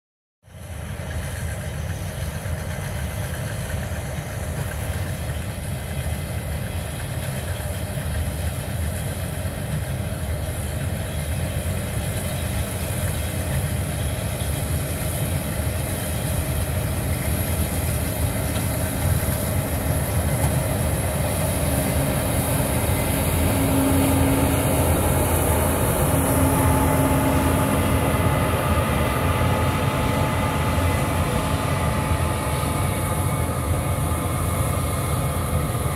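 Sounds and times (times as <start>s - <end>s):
combine harvester drone: 0.5s - 35.9s.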